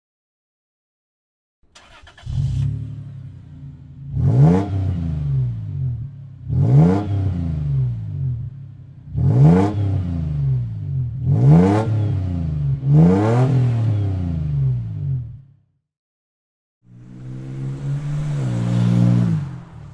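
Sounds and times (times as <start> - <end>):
truck engine idling and revving: 1.7 - 15.6, 16.9 - 19.9.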